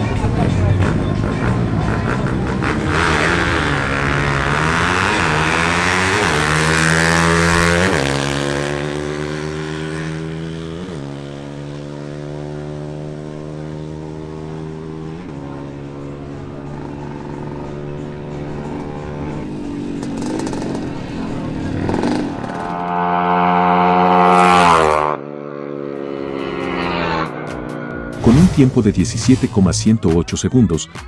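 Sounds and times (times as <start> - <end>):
motorcycle engine at full throttle: 0.0 - 28.3.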